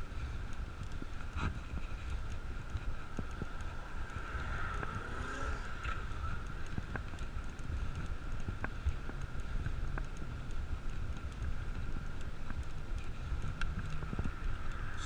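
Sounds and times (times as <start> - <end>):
bicycle road rumble: 0.0 - 15.0
wind buffeting microphone: 0.0 - 15.0
sharp clicks: 0.4 - 15.0.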